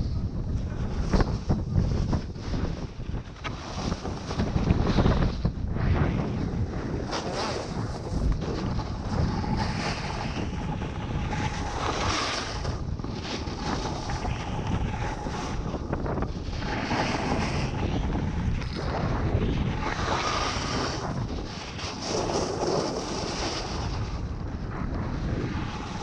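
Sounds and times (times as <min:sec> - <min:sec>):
snowboard scraping snow: 0:00.0 - 0:26.0
wind buffeting microphone: 0:00.0 - 0:26.0.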